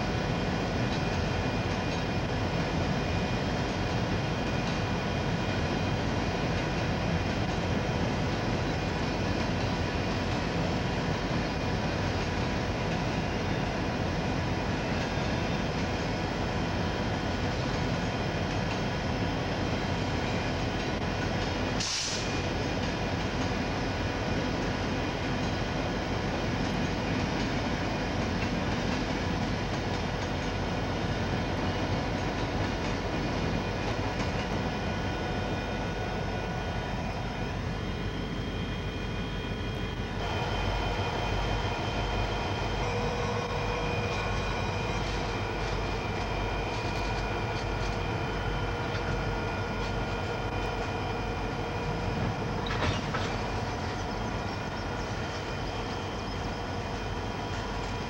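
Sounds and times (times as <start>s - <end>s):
locomotive engine rumble: 0.0s - 58.0s
railcars rolling on rails: 0.0s - 58.0s.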